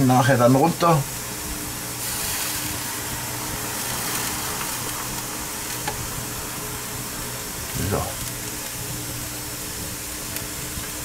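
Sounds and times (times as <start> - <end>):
electric fan rushing: 0.0 - 11.0
skewers sizzling on grill: 0.0 - 11.0.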